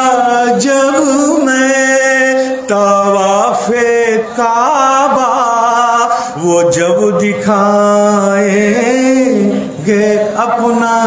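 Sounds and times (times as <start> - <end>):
man singing devotional verse: 0.0 - 11.0.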